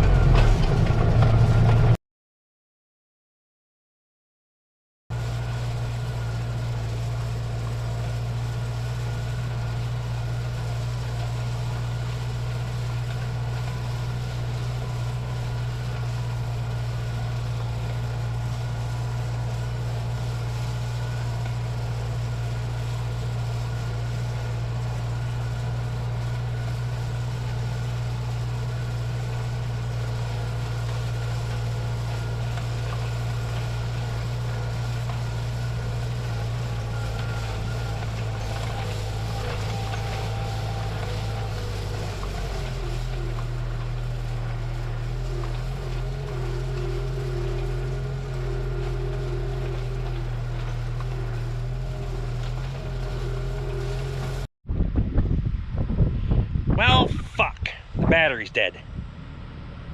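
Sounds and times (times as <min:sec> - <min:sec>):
tractor engine droning: 0:00.0 - 0:02.0, 0:05.1 - 0:55.7, 0:56.5 - 0:59.9.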